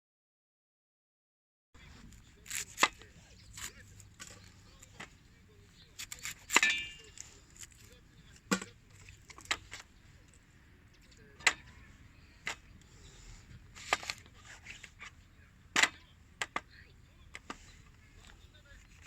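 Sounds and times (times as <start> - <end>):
low steady background noise: 1.8 - 19.0.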